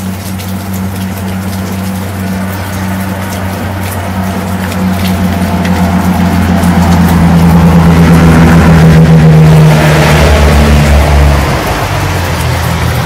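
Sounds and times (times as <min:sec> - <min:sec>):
engine running low drone: 0:00.0 - 0:13.0.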